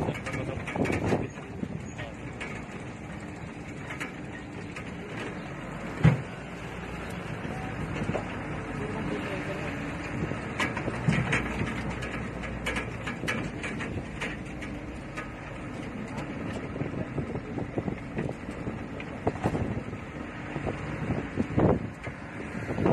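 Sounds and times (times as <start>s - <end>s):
car engine and road rumble: 0.0s - 22.9s
sharp clicks and rattles: 0.0s - 22.9s.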